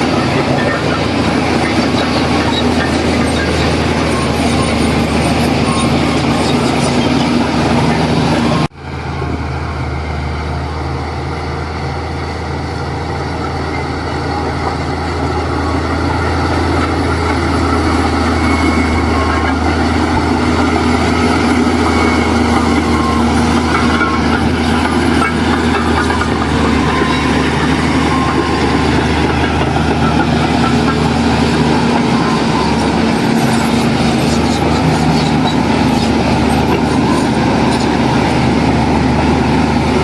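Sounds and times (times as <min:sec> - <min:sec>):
diesel earthmoving machinery running: 0:00.0 - 0:40.0.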